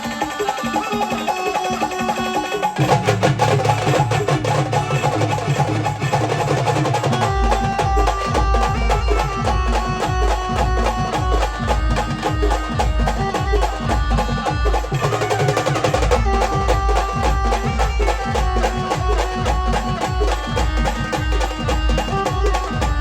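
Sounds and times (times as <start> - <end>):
fast dense percussion: 0.0 - 23.0
live band instrumental music: 0.0 - 23.0.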